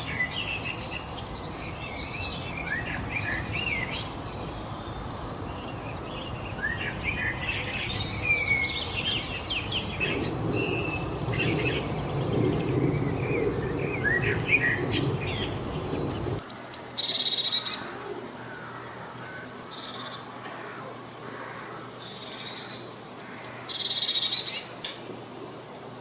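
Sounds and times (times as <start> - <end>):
small birds chirping and singing: 0.0 - 25.0
low background rush: 0.0 - 26.0.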